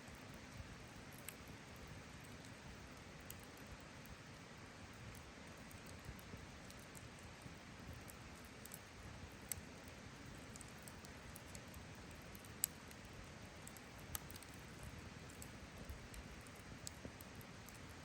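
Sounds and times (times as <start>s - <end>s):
fire crackles and pops: 0.0s - 18.0s
campfire hissing: 0.1s - 18.0s.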